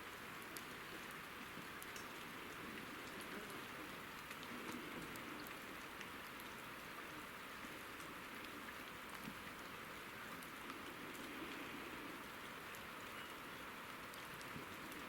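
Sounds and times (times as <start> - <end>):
light rain hiss: 0.0 - 15.0
raindrop ticks: 0.0 - 15.0.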